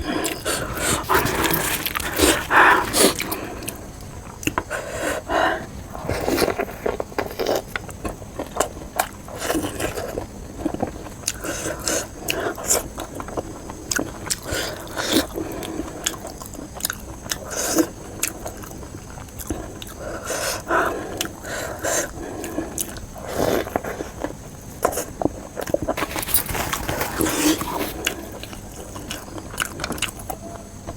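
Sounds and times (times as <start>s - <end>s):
person chewing food: 0.0s - 4.8s, 5.6s - 30.9s.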